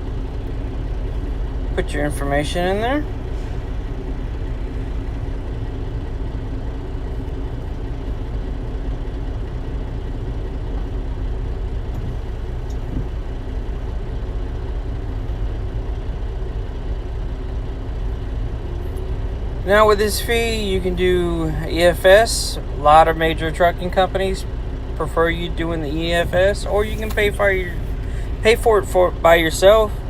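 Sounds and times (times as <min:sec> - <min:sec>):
diesel truck engine idling: 0:00.0 - 0:30.0
faint steady hum: 0:00.0 - 0:30.0.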